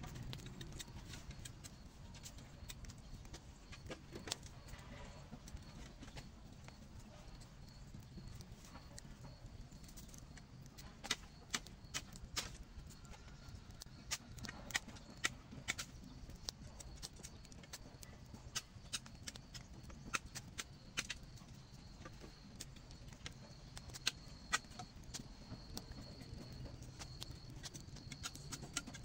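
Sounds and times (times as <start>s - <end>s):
faint high-pitched insect whine: 0.0s - 29.0s
wood fire crackling and popping: 0.0s - 29.0s.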